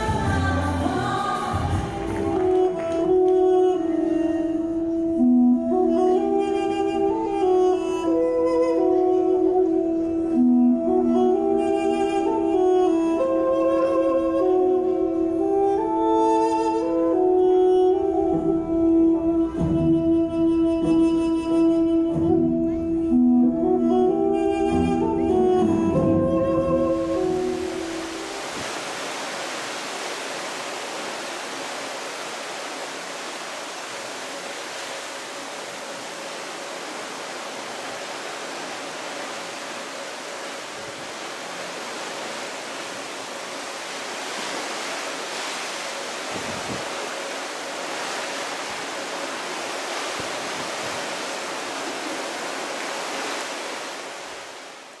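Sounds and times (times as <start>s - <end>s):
sea waves rushing: 0.0s - 55.0s
wind: 0.0s - 55.0s.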